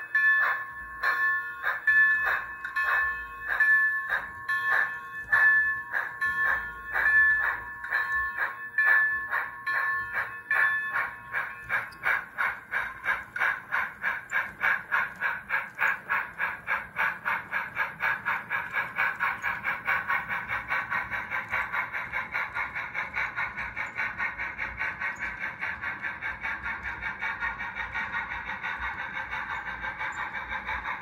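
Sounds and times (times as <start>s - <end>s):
model steam locomotive chuffing: 0.0s - 31.0s.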